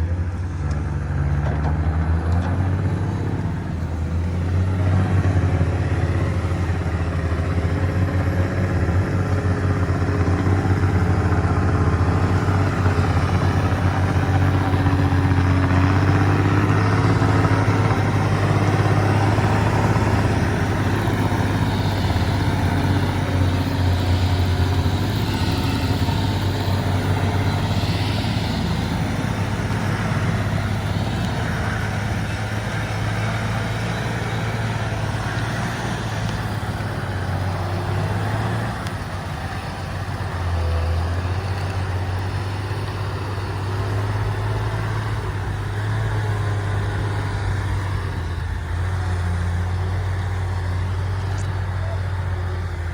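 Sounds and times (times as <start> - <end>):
heavy machinery engine humming: 0.0 - 52.9.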